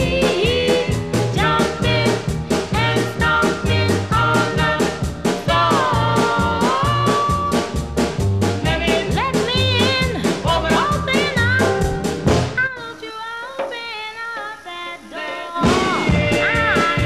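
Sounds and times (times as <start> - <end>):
upbeat background music: 0.0 - 12.8, 14.5 - 17.0
steady drum beat: 0.0 - 13.0, 13.6 - 17.0.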